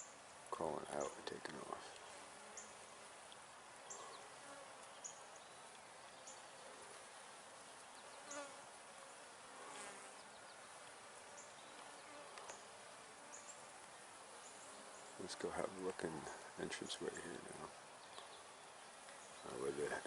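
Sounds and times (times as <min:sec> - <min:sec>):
bees passing close: 0:00.0 - 0:20.0
honey bees buzzing: 0:00.0 - 0:20.0.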